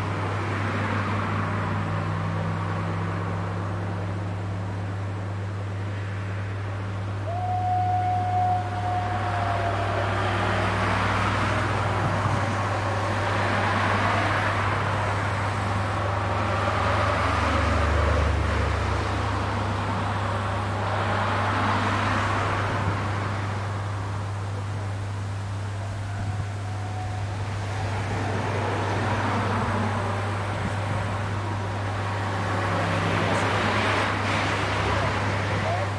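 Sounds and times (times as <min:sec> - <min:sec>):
vehicles passing: 0:00.0 - 0:35.9.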